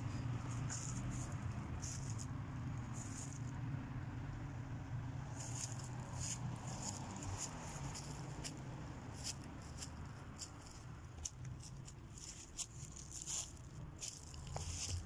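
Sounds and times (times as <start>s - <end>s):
footsteps crunching through dry leaves: 0.0s - 3.5s, 5.3s - 15.0s
traffic hum: 0.0s - 15.0s.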